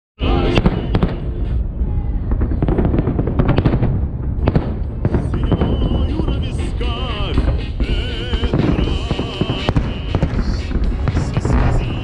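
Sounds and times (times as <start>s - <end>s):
fireworks bangs and crackles: 0.2s - 12.0s
low rumble: 0.2s - 12.0s.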